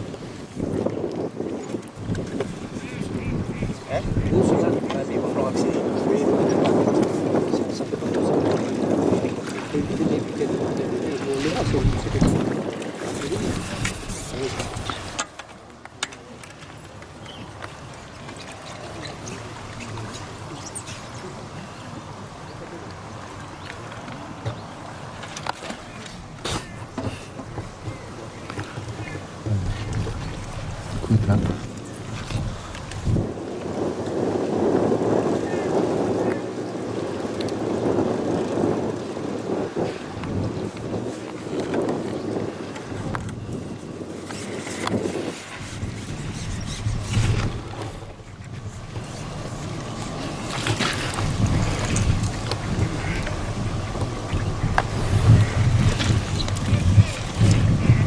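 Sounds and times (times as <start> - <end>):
water lapping: 0.0 - 58.0
wind buffeting microphone: 0.0 - 58.0.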